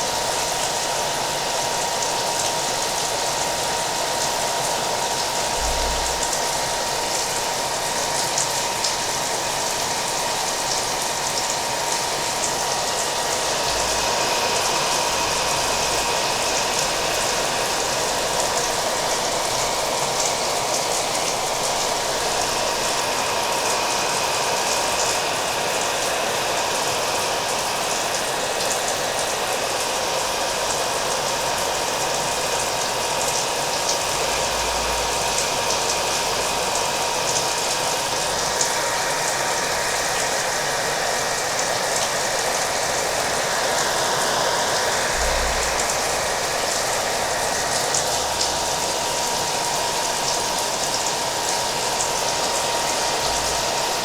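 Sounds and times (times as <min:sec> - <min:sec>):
hair dryer whining: 0:00.0 - 0:54.0.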